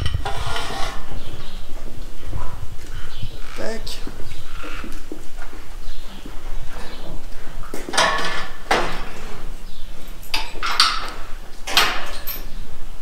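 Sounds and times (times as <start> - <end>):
metal railings clanking: 0.0 - 12.7.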